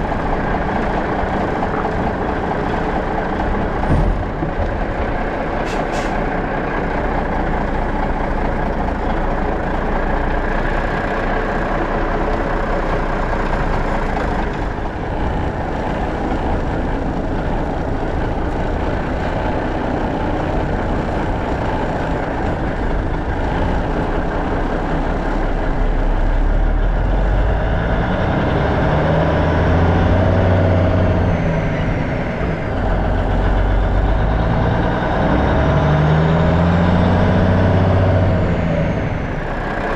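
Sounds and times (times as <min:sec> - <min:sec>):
diesel truck engine running: 0:00.0 - 0:39.9
tyres on gravel road: 0:00.0 - 0:39.9.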